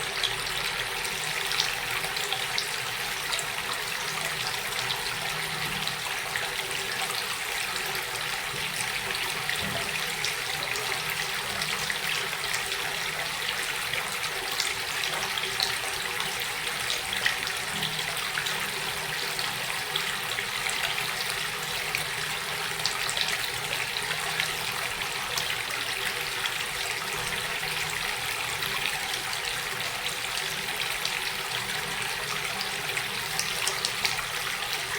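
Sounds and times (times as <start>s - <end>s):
water running and splashing: 0.0s - 34.9s.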